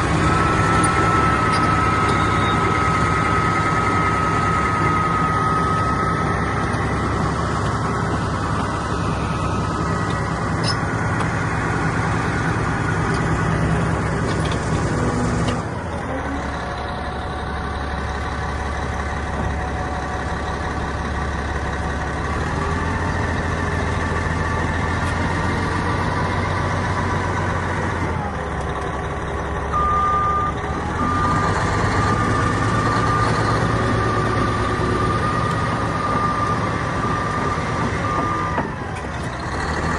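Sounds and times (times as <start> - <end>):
bulldozer diesel engine changing speed: 0.0 - 39.9.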